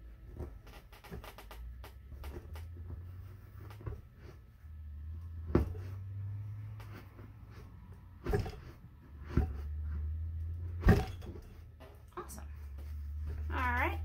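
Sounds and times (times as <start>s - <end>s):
hands pushing fabric: 0.1s - 11.6s.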